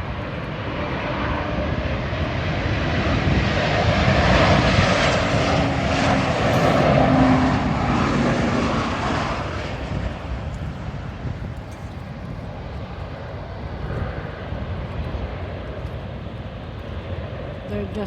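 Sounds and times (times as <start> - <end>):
airliner engines passing: 0.0 - 18.0.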